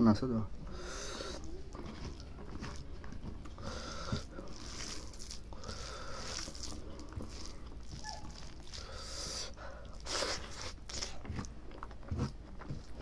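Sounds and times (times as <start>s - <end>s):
hand squishing rice: 0.5s - 13.0s
chewing and mouth smacking: 0.7s - 13.0s.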